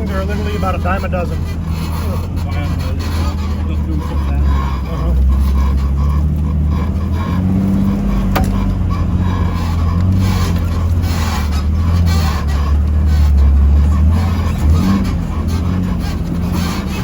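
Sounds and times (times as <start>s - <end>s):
vehicle engine low drone: 0.0s - 17.0s.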